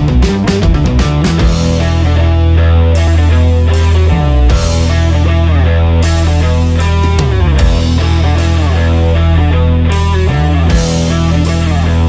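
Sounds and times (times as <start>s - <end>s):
instrumental music heavy low end: 0.0s - 12.0s.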